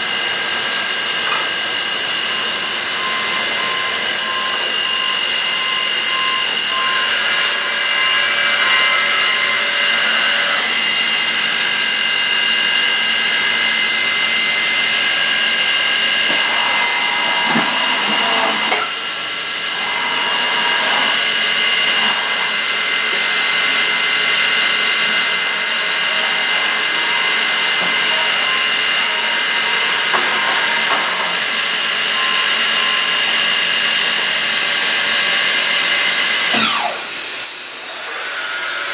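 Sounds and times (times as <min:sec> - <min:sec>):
machine high-pitched whine: 0:00.0 - 0:38.9.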